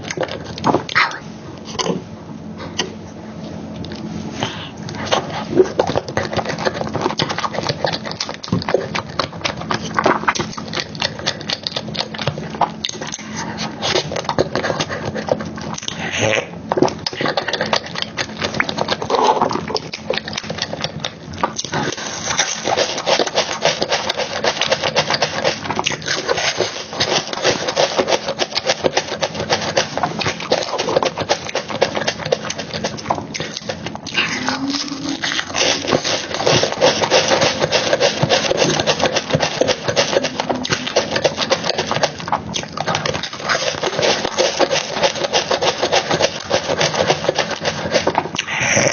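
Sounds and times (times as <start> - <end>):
chewing and mouth smacking: 0.0 - 2.0, 4.8 - 48.9.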